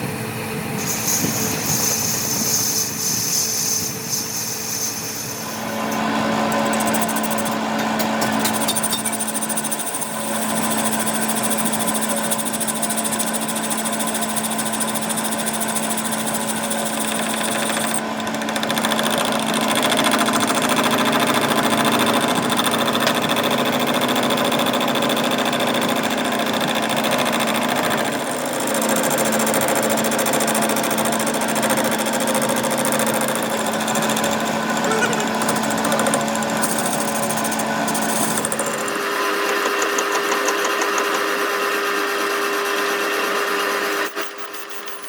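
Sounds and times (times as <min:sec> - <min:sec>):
machine tool chattering: 0:00.9 - 0:25.3, 0:27.0 - 0:39.0.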